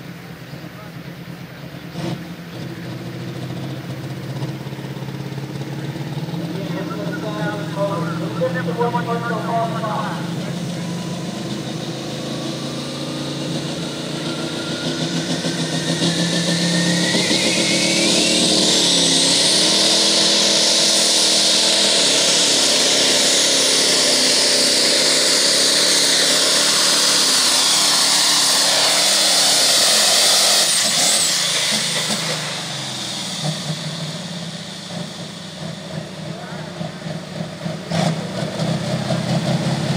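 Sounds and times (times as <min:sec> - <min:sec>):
diesel engine under full load: 0:00.0 - 0:39.9.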